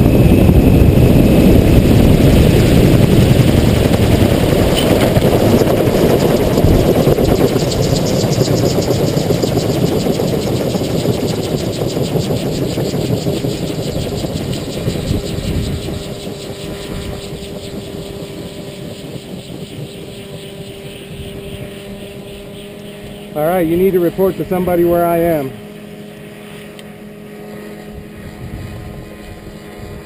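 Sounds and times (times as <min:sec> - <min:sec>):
rotor blades whooshing: 0:00.0 - 0:30.0.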